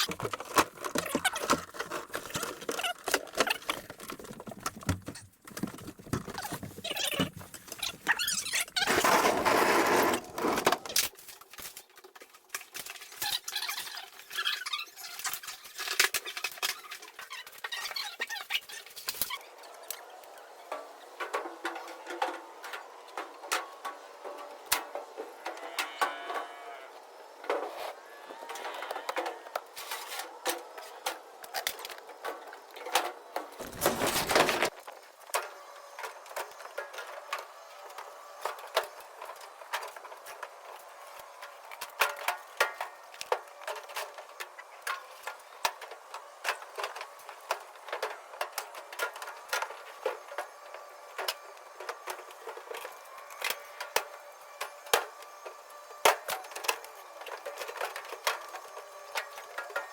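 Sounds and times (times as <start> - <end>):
clatter of junk being handled: 0.0 - 26.5, 28.5 - 59.9.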